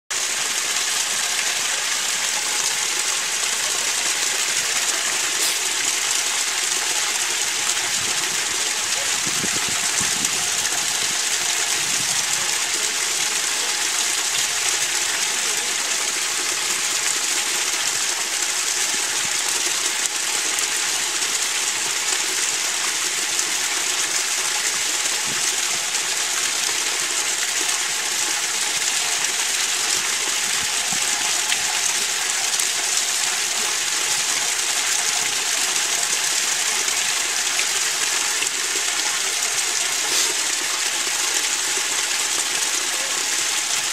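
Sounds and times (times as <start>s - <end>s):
water pouring onto stone: 0.2s - 43.9s.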